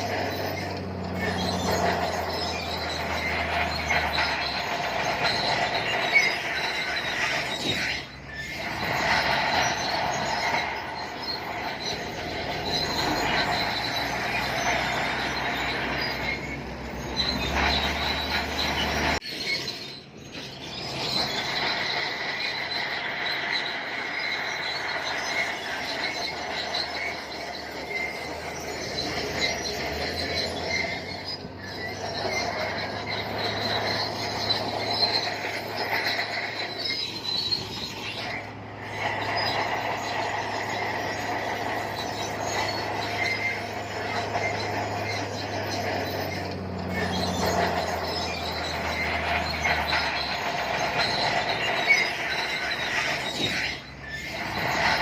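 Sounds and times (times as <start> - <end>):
bulldozer tracks squealing: 0.0 - 55.0
engine drone: 0.0 - 55.0.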